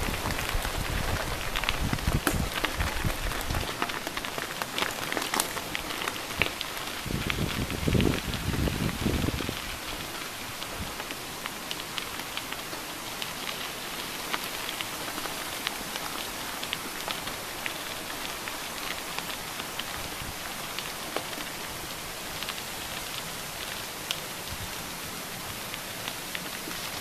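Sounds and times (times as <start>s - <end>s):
bike tyres crunching on gravel: 0.0s - 27.0s.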